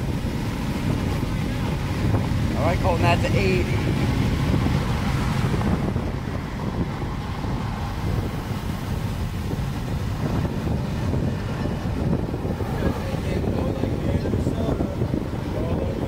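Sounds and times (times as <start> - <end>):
car cabin road rumble: 0.0 - 16.0
wind noise: 0.0 - 16.0.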